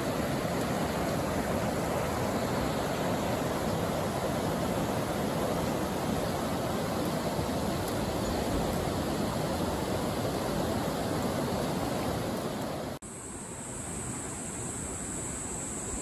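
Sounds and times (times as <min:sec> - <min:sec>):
river water rushing over rocks: 0:00.0 - 0:13.0
steady high hiss: 0:00.0 - 0:16.0.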